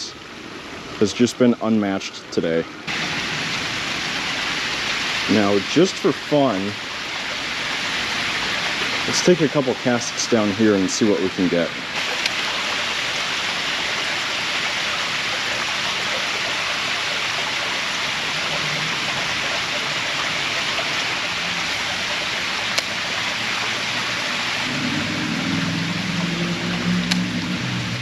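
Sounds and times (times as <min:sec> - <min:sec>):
stream water running over rocks: 0:00.0 - 0:28.0.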